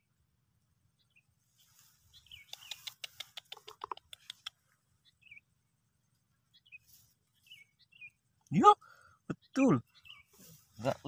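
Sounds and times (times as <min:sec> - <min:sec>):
faint bird chirps: 0:00.9 - 0:11.0.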